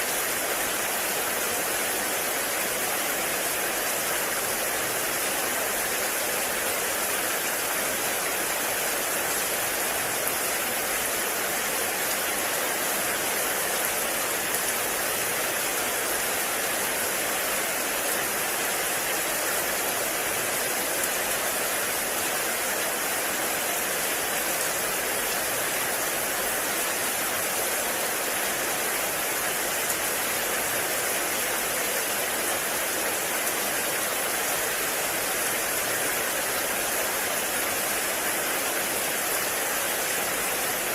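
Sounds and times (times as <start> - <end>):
heavy rain in forest: 0.0 - 40.9.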